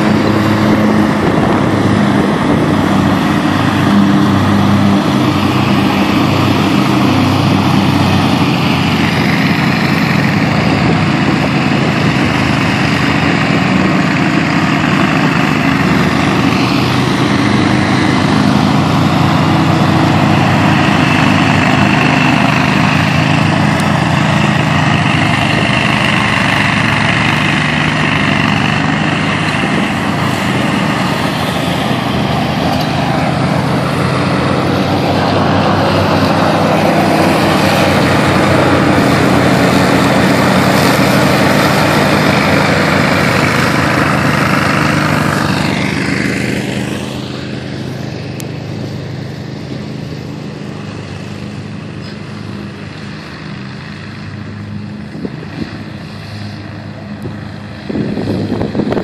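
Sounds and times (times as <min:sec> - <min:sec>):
mower engine and blades cutting grass: 0:00.0 - 0:59.0.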